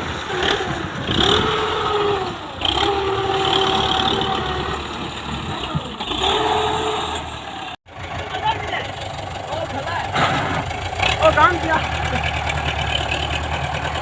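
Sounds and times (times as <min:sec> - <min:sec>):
tractor diesel engine revving: 0:00.0 - 0:14.0.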